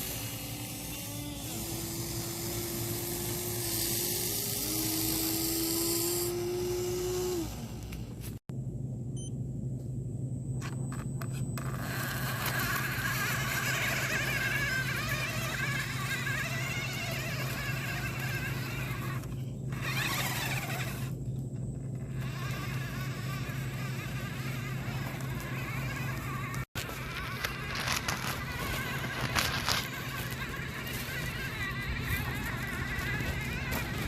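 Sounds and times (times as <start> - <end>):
small electric motors whining: 0.0 - 8.5, 10.7 - 34.0
steady low hum: 0.0 - 34.0.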